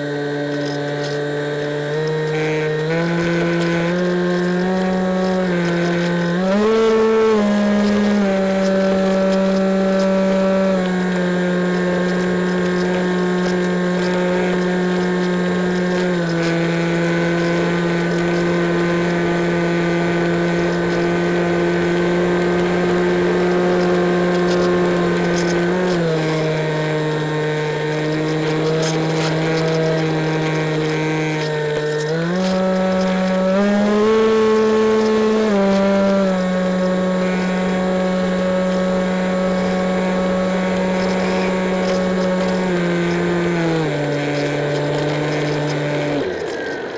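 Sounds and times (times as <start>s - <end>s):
model plane motor droning: 0.0s - 46.9s.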